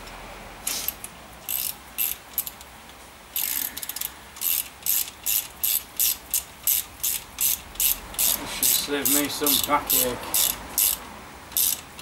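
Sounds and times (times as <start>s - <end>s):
ratchet clicking: 0.7s - 2.7s, 3.4s - 12.0s.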